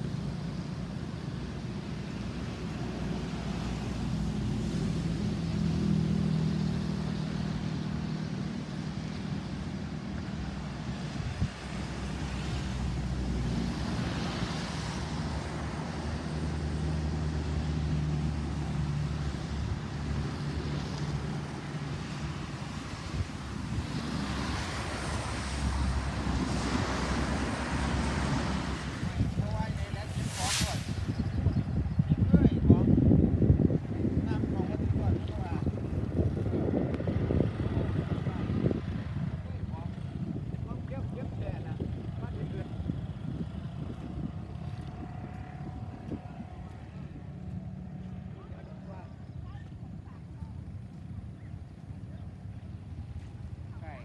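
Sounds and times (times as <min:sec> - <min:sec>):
wind noise on microphone: 0:00.0 - 0:53.8
vehicle engine hum: 0:00.0 - 0:54.0.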